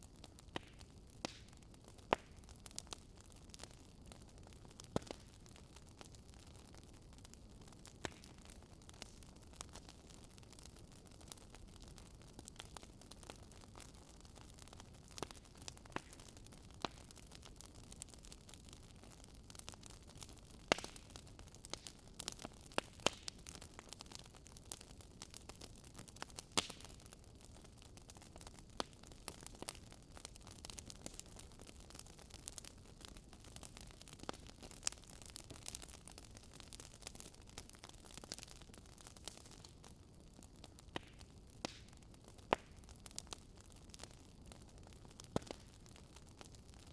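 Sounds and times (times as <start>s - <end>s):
campfire crackling and popping: 0.0s - 46.9s
low fire rumble: 0.0s - 46.9s.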